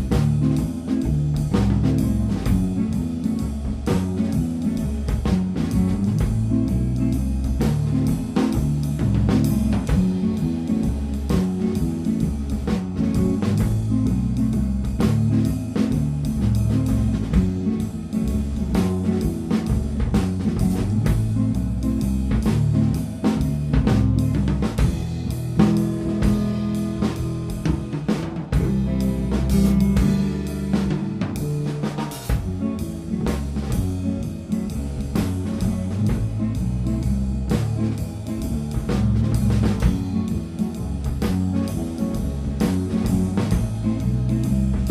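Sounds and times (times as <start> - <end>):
drum kit steady beat: 0.0 - 44.9
electric guitar: 0.0 - 44.9
instrumental band playing: 0.0 - 44.9
sustained bass notes: 0.0 - 44.9.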